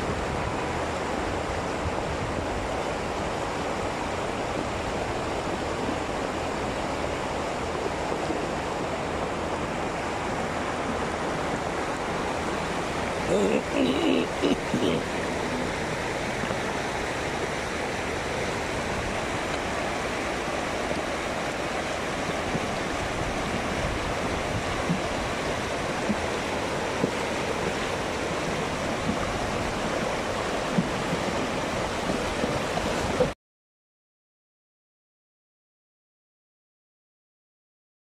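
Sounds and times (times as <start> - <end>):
river rushing over stones: 0.0 - 33.4.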